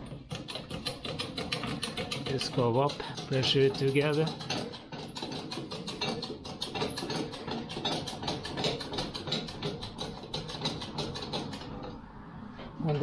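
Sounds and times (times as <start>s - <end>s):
hydraulic foot pump chattering: 0.0s - 12.0s.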